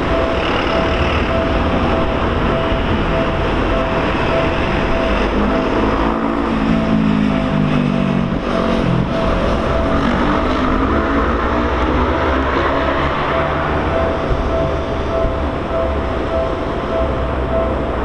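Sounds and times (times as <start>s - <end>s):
level crossing alarm ringing: 0.0s - 18.0s
train rumbling past: 0.0s - 18.0s
train whine falling in pitch: 0.0s - 18.0s.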